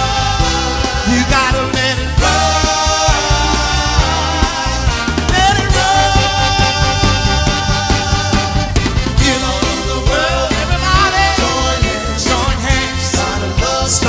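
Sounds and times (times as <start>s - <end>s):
band music: 0.0s - 14.0s
person singing: 0.0s - 14.0s.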